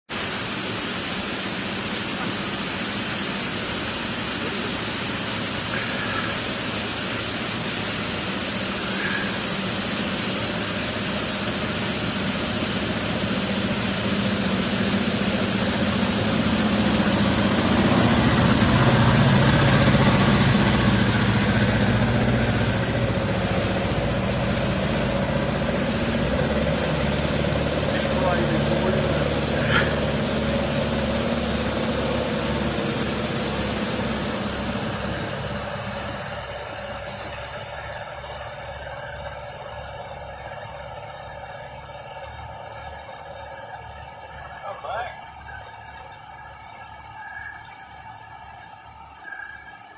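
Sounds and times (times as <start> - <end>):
water rushing through sluice: 0.1 - 49.9
water scooter engine: 0.1 - 49.9.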